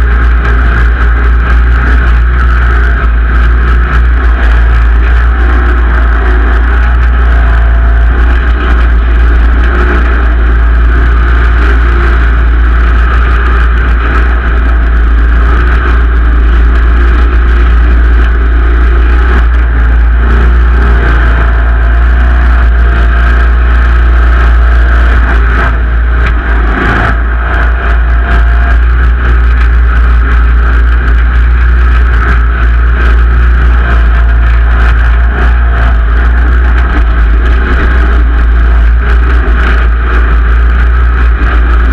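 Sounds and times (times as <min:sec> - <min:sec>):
garden tractor engine running: 0:00.0 - 0:41.9.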